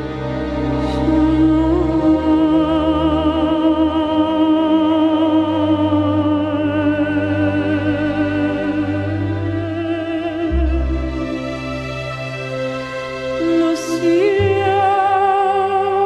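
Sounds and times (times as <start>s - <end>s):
low sustained bass tones: 0.0s - 16.0s.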